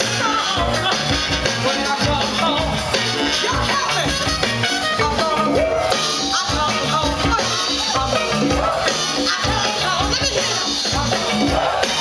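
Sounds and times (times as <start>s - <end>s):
live soul band playing: 0.0s - 12.0s.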